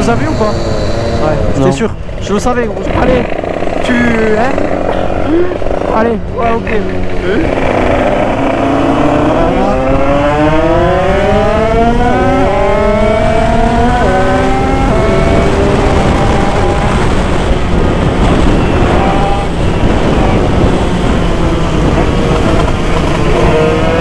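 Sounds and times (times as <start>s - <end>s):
two-stroke engine revving: 0.0s - 24.0s
wind rush: 0.0s - 24.0s.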